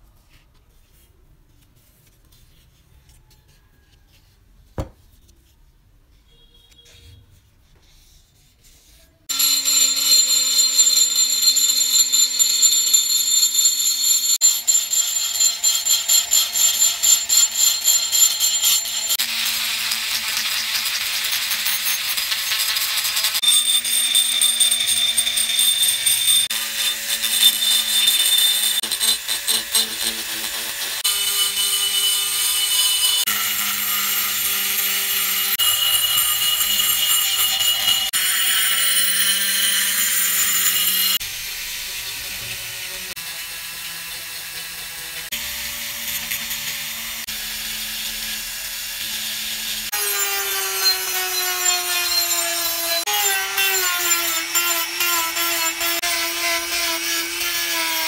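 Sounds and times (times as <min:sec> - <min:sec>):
rotary tool grinding metal: 0:09.2 - 0:58.0.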